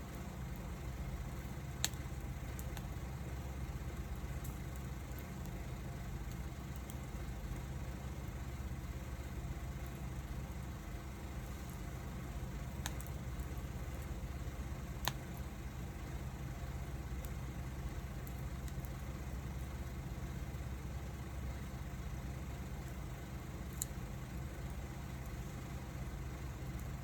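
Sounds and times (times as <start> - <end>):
burning wood popping: 0.0 - 27.0
wood fire crackling: 0.0 - 27.0.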